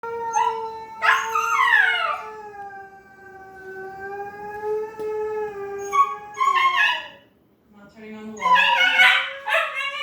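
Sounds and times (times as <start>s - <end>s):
husky howling: 0.0s - 7.2s, 8.4s - 10.0s.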